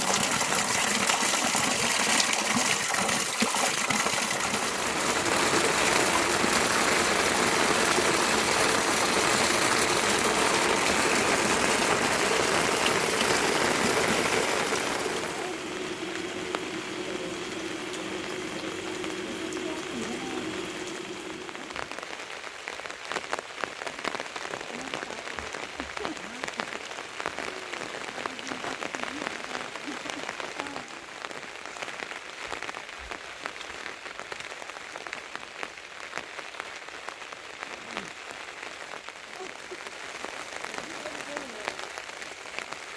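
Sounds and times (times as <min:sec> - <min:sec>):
heavy rain hissing: 0:00.0 - 0:42.9
raindrops ticking: 0:00.0 - 0:42.9.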